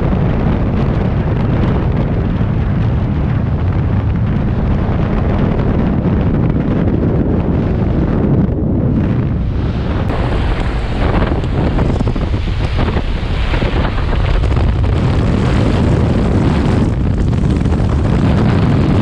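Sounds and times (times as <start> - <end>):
wind roaring over microphone: 0.0 - 19.0.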